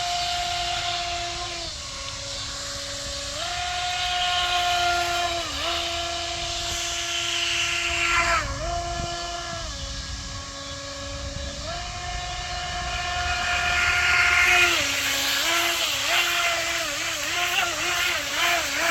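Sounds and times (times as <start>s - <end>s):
electric motor whining: 0.0s - 18.9s
hull hissing through water spray: 0.0s - 18.9s.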